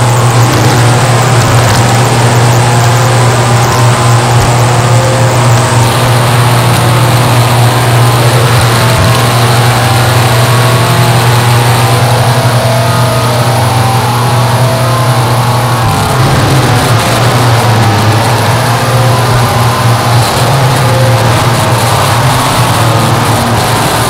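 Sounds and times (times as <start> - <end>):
distorted static noise: 0.0 - 24.0
steady low drone: 0.0 - 24.0.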